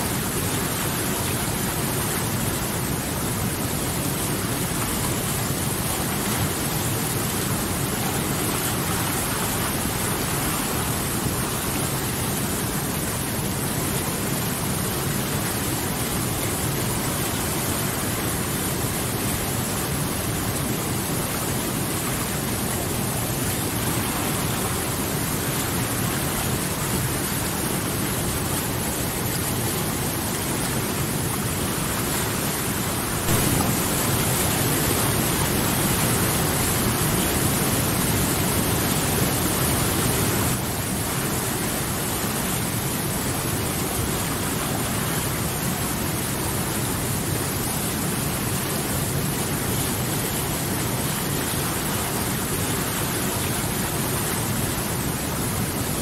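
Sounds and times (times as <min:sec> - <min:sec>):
water rushing over boulders: 0:00.0 - 0:56.0.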